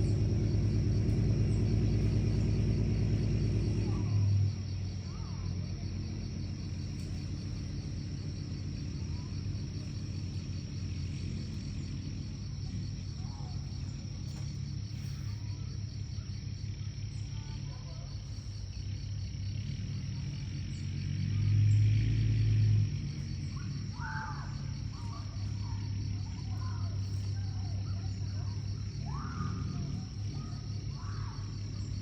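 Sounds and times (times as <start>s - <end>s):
crickets chirping: 0.0s - 32.0s
low steady rumble: 0.0s - 32.0s.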